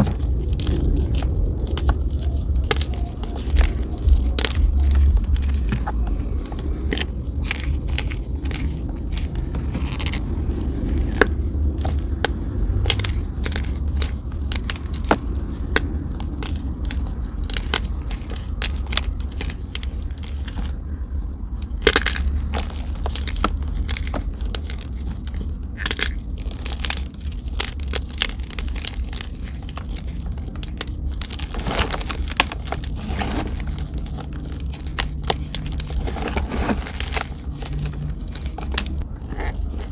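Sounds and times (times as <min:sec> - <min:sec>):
chalk being crushed by hand: 0:00.0 - 0:39.9
steady low rumble: 0:00.0 - 0:39.9.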